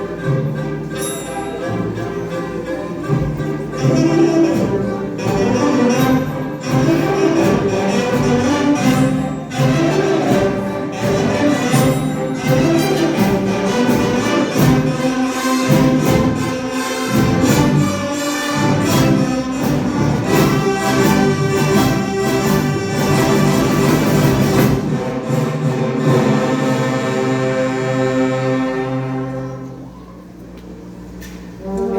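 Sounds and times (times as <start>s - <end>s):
orchestra playing: 0.0s - 30.0s, 31.6s - 31.9s.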